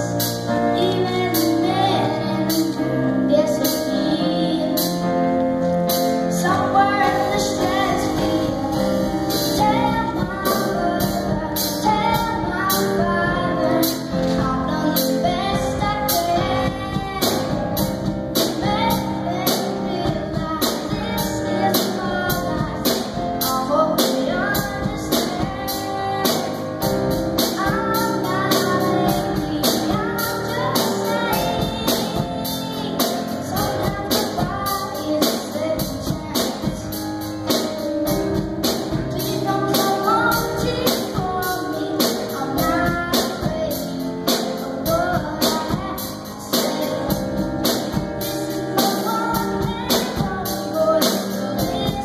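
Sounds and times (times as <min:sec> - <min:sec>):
drum kit beat: 0:00.0 - 0:52.0
keyboard: 0:00.0 - 0:52.0
person singing into microphone: 0:06.3 - 0:37.3, 0:38.1 - 0:52.0.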